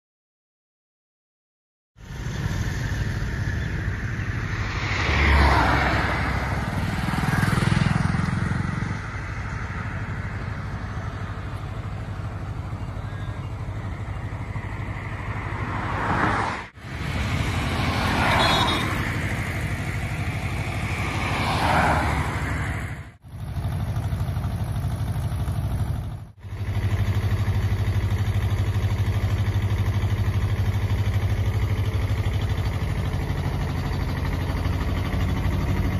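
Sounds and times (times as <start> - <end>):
vehicle engine idling: 2.0 - 5.0, 6.2 - 16.0, 16.8 - 35.9
vehicles passing by: 2.0 - 35.9.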